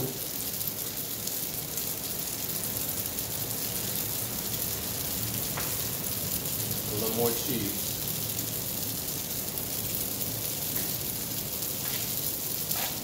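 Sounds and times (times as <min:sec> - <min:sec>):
noodles sizzling in frying pan: 0:00.0 - 0:13.0.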